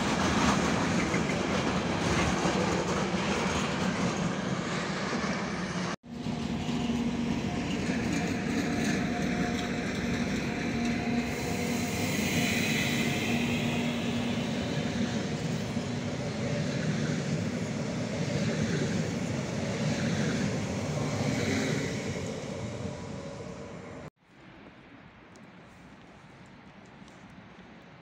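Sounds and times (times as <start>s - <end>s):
train wheels rumbling on rail: 0.0s - 24.1s
train hum: 0.0s - 28.0s.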